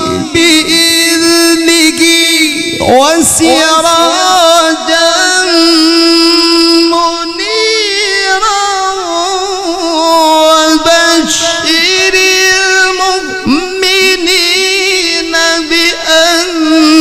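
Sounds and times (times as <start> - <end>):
man chanting through microphone: 0.0 - 17.0.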